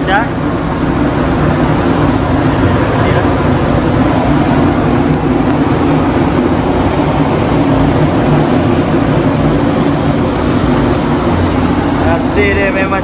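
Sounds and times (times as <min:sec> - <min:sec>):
air system running: 0:00.0 - 0:13.0
spray gun hissing: 0:00.0 - 0:13.0.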